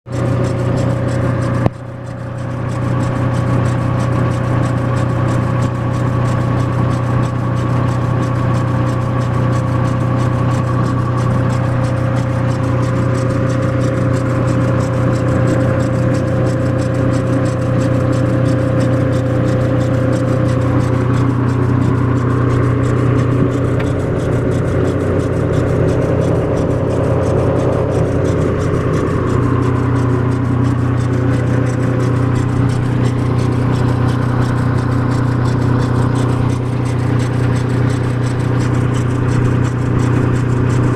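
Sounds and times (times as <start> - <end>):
car engine running: 0.0 - 40.9
whining tone: 0.1 - 40.9.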